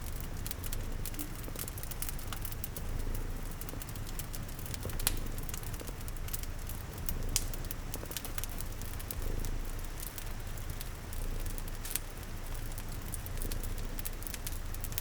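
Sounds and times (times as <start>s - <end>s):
cat purring: 0.0s - 15.0s
steady rain: 0.0s - 15.0s
wood fire crackling: 0.0s - 15.0s.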